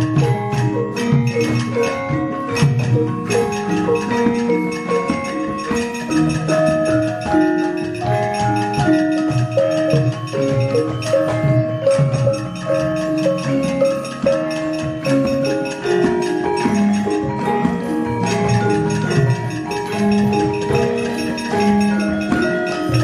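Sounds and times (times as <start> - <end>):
gamelan music: 0.0 - 23.0.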